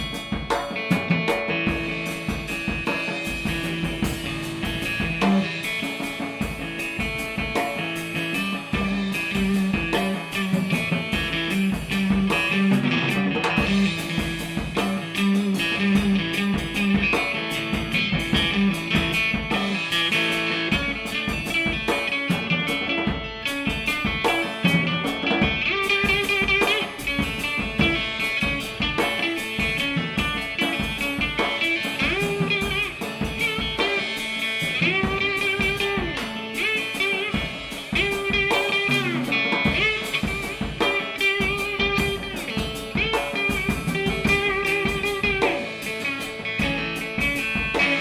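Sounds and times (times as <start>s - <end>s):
busy drumming: 0.0s - 48.0s.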